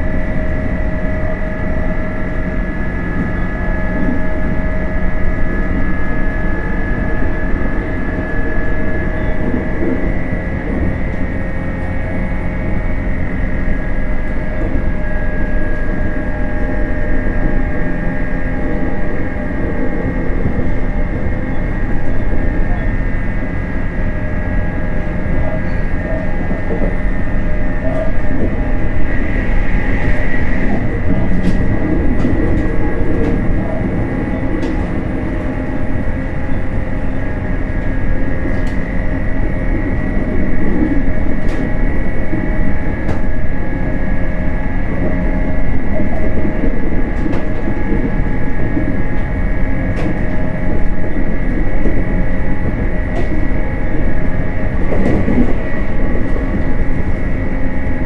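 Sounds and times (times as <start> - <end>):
electric drive hum: 0.0 - 58.0
wheels rumbling on rail: 0.0 - 58.0.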